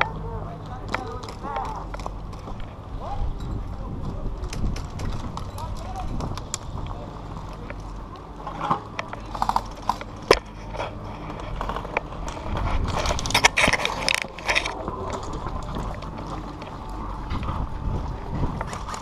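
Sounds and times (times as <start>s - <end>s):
gun and gear clicks and rattling: 0.7s - 2.8s, 4.4s - 19.0s.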